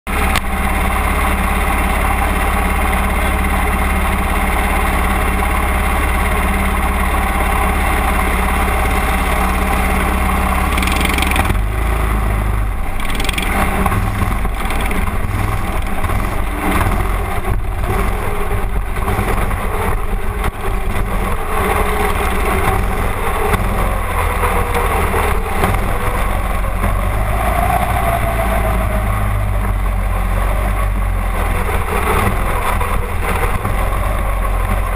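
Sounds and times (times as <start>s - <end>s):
race car engine: 0.1s - 34.9s.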